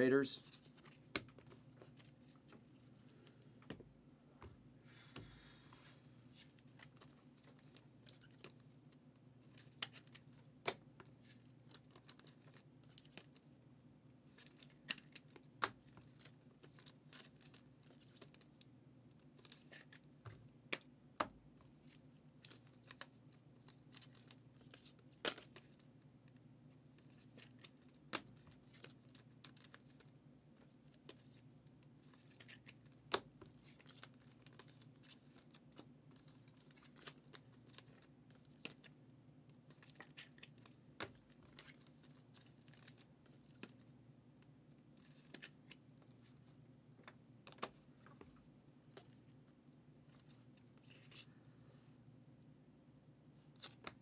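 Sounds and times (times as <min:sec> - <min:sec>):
faint low steady hum: 0:00.0 - 0:54.0
cards handled on a tabletop: 0:00.4 - 0:08.7, 0:09.4 - 0:13.5, 0:14.2 - 0:18.6, 0:19.2 - 0:25.9, 0:27.0 - 0:39.0, 0:39.6 - 0:43.9, 0:44.9 - 0:49.5, 0:50.1 - 0:51.4, 0:53.5 - 0:54.0.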